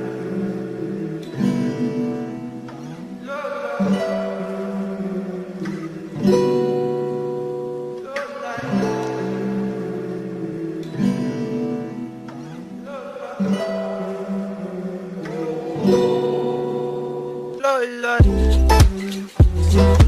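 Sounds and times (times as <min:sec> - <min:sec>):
guitar strumming chords: 0:00.0 - 0:20.0.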